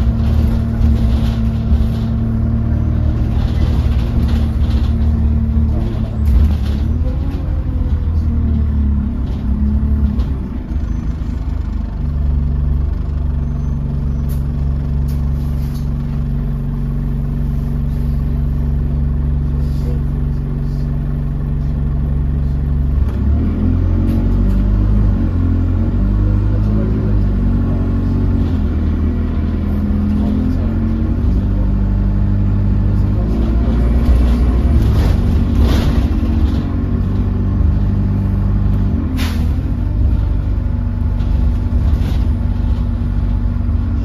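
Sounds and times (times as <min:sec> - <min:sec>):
bus engine running: 0:00.0 - 0:44.0.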